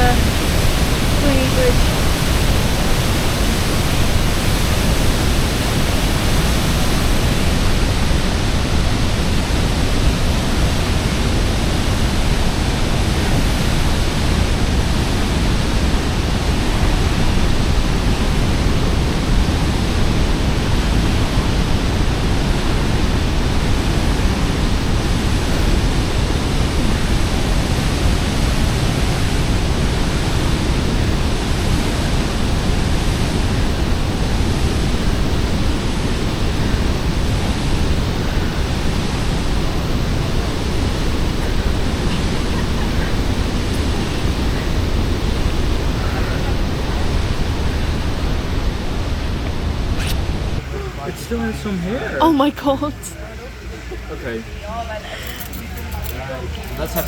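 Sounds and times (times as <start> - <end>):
large waterfall rushing: 0.0 - 53.0.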